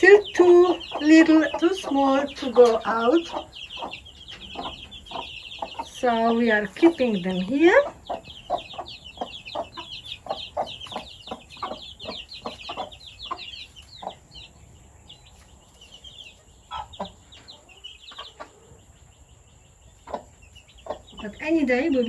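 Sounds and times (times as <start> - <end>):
chickens clucking: 0.0 - 22.0
chicks peeping: 0.0 - 22.0.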